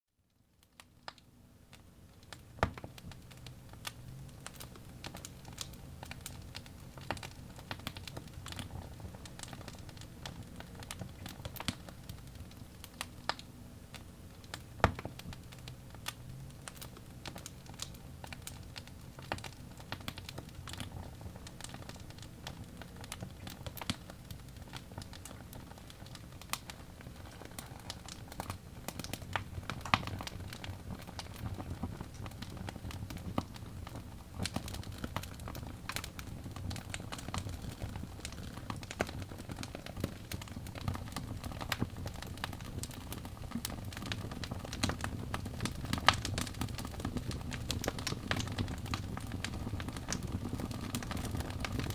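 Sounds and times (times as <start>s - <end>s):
logs crackling in fireplace: 0.6s - 51.9s.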